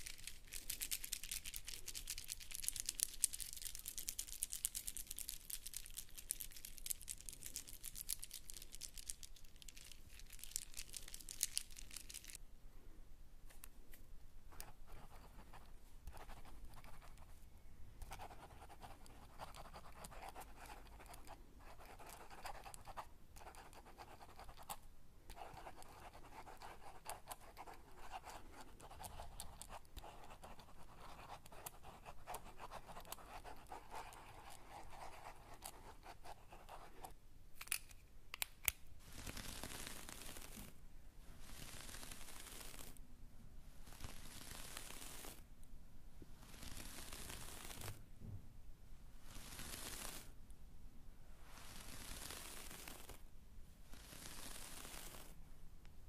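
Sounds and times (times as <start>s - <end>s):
close crackly scratching: 0.0s - 12.4s, 14.5s - 17.4s, 18.0s - 37.8s, 38.6s - 40.8s, 41.4s - 43.0s, 43.8s - 45.4s, 46.4s - 48.0s, 49.3s - 50.3s, 51.5s - 53.2s, 53.9s - 55.4s.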